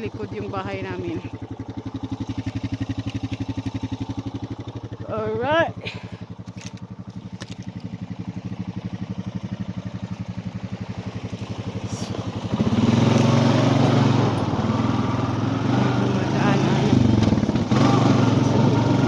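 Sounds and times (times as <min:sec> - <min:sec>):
small engine puttering: 0:00.0 - 0:19.0.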